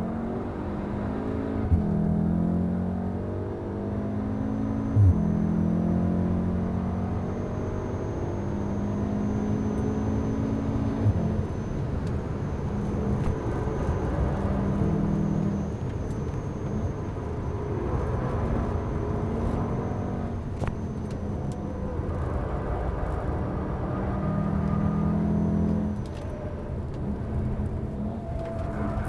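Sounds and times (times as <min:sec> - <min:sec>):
car engine running hard: 0:00.0 - 0:29.0
road and tyre noise: 0:00.0 - 0:29.0.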